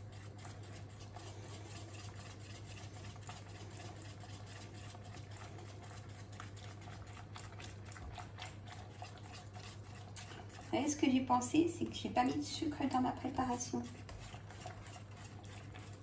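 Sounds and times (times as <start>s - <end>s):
whisk scraping saucepan: 0.0s - 16.0s.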